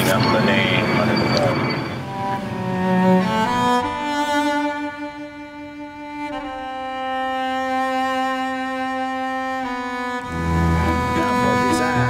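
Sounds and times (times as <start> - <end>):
slow bowed strings: 0.0 - 12.0.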